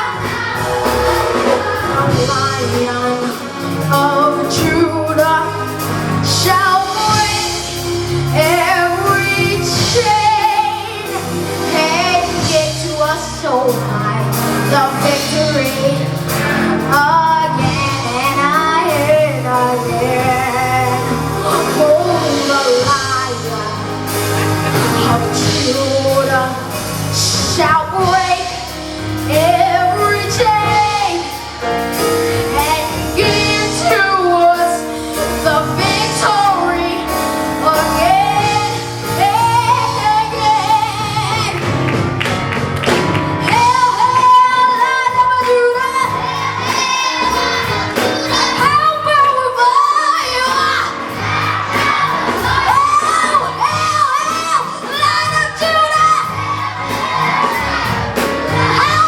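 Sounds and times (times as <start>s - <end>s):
singers over a band: 0.0s - 59.0s.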